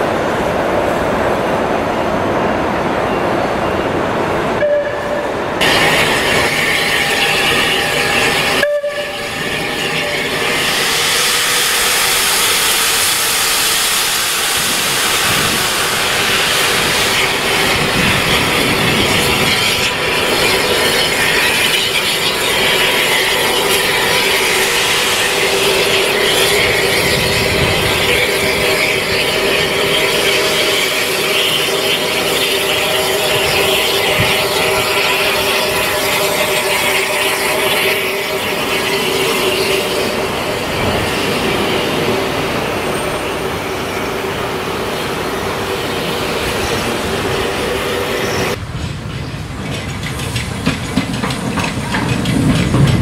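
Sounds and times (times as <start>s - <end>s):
train running by: 0.0s - 53.0s
steady tones: 3.1s - 48.6s.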